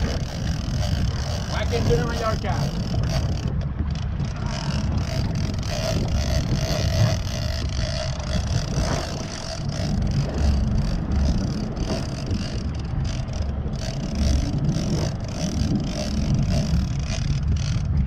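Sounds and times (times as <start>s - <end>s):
boat motor running: 0.0s - 18.0s
wind rumbling on microphone: 0.0s - 18.0s.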